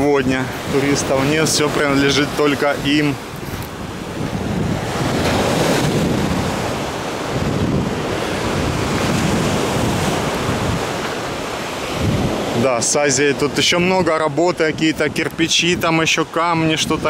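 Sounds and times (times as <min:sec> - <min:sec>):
small waves washing ashore: 0:00.0 - 0:17.0
wind buffeting microphone: 0:00.0 - 0:17.0.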